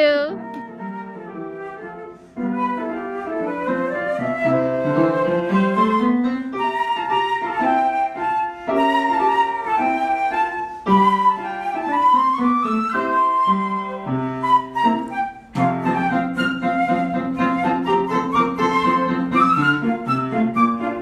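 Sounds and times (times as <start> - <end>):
flute melody: 0.3 - 21.0.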